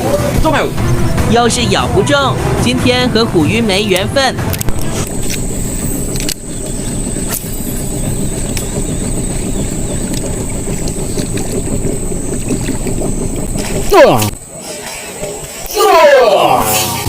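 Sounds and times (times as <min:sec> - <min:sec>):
boat motor rumbling: 0:00.0 - 0:17.0.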